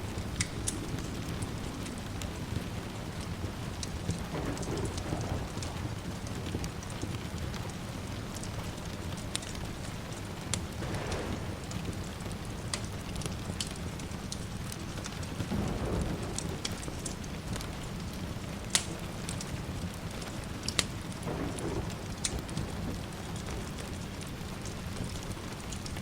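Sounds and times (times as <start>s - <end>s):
rain hissing: 0.0s - 26.0s
sharp pops from fire: 0.0s - 26.0s
wood fire crackling: 0.0s - 26.0s.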